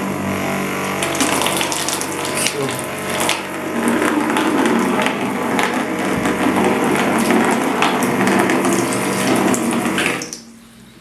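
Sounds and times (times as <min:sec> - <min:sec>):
electric pump humming: 0:00.0 - 0:11.0
water rushing through hose: 0:00.8 - 0:10.6.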